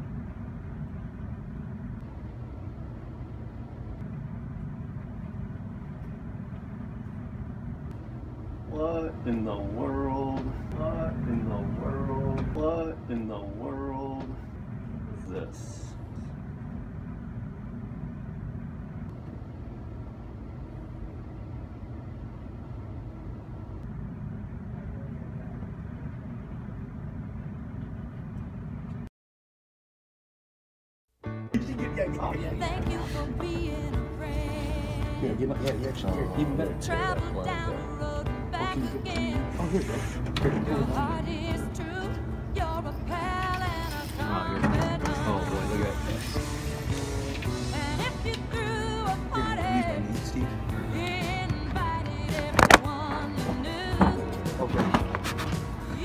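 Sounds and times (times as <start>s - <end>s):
low machinery rumble: 0.0s - 29.1s, 31.6s - 56.0s.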